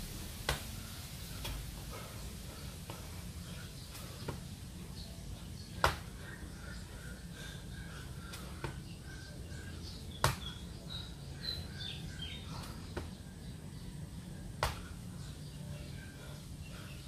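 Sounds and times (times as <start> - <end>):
birds chirping: 0.4 - 17.0.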